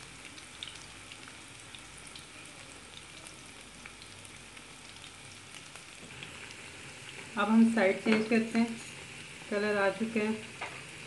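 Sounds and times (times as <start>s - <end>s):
deep-frying sizzle with pops: 0.0s - 11.0s.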